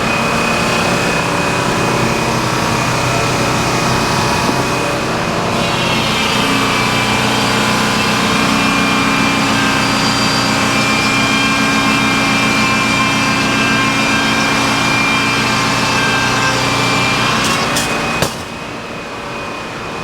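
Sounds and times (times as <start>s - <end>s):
engine humming: 0.0s - 19.3s
sawmill machinery running: 0.0s - 20.0s.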